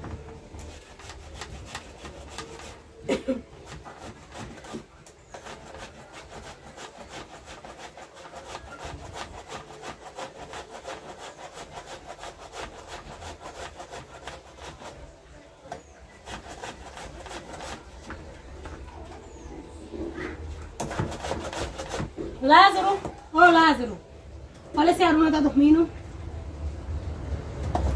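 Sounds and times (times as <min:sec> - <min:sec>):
root being grated by hand: 0:00.0 - 0:19.4, 0:20.0 - 0:23.6.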